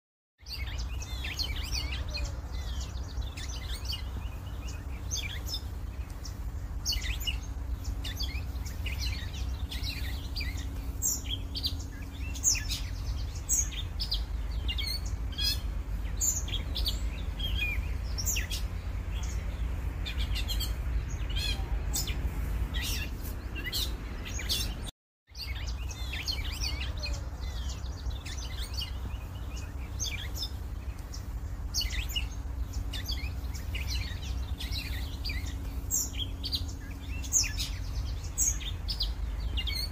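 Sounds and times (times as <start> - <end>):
songbirds chirping: 0.4 - 39.9
steady low rumble: 0.5 - 39.9.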